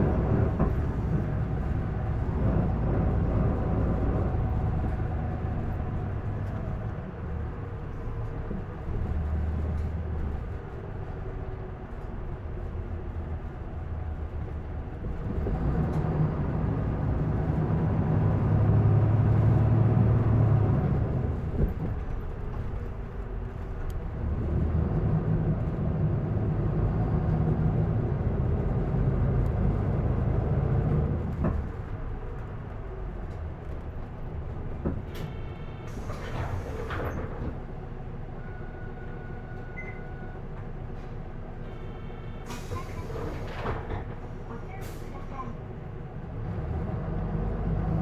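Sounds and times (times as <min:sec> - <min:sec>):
bus diesel engine: 0:00.0 - 0:48.0.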